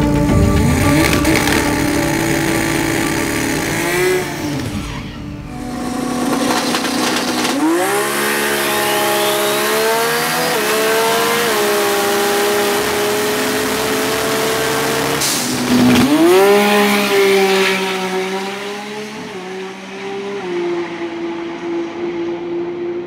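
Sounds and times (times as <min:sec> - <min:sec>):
turbocharged engine at full throttle: 0:00.0 - 0:23.0.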